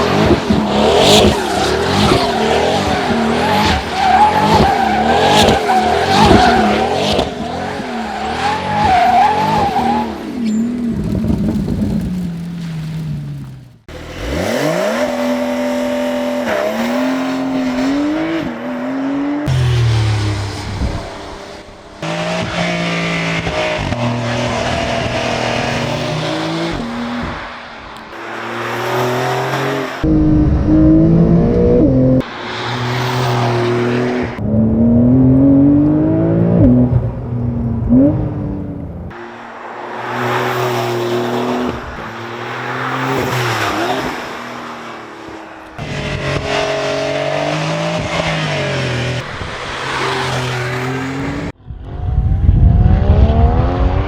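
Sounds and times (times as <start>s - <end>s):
sports car engine accelerating: 0.0s - 44.6s, 45.2s - 54.0s.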